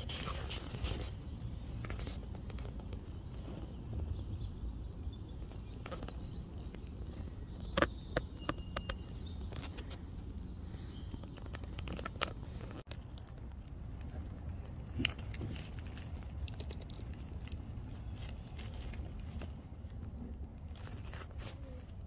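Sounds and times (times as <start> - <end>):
sharp clicks and rustles: 0.0 - 4.2, 5.4 - 22.0
steady low rumble: 0.0 - 22.0.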